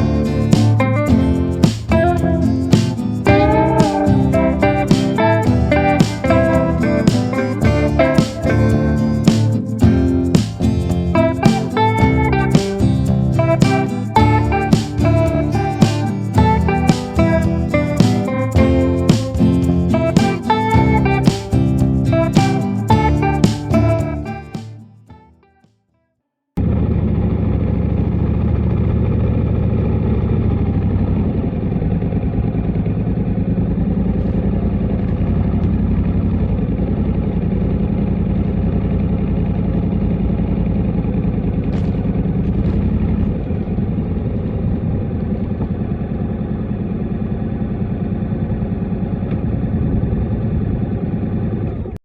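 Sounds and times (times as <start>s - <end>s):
motorcycle engine running: 0.0s - 24.7s, 26.6s - 52.0s.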